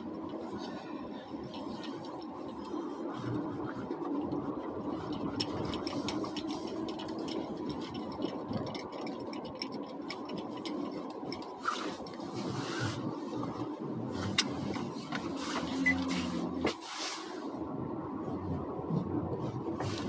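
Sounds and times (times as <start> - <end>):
car cabin hum: 0.0 - 20.0.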